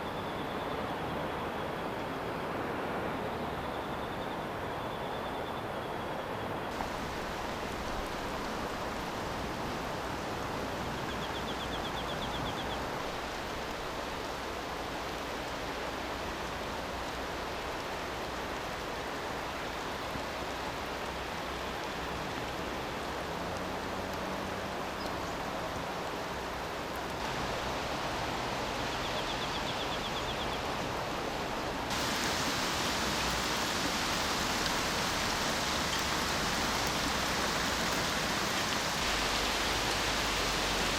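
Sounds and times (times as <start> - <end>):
steady rain: 0.0 - 5.1, 6.5 - 40.9.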